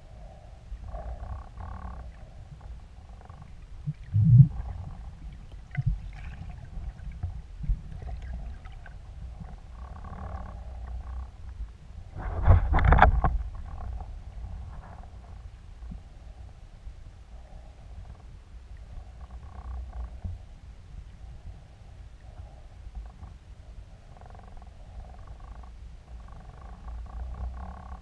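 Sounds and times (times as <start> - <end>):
muffled underwater rumble: 0.0 - 28.0.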